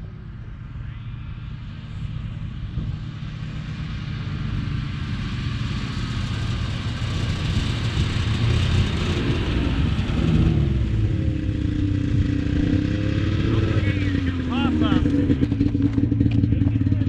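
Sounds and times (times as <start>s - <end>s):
small engine running: 1.8s - 17.0s.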